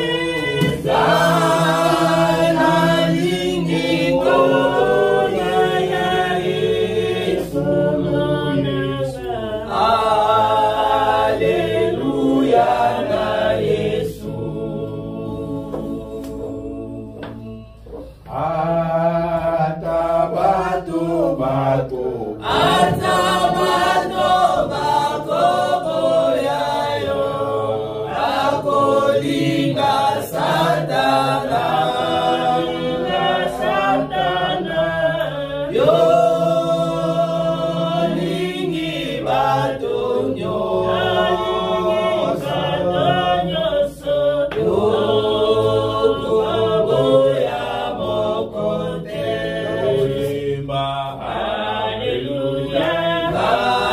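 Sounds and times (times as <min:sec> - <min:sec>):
congregation singing: 0:00.0 - 0:53.9.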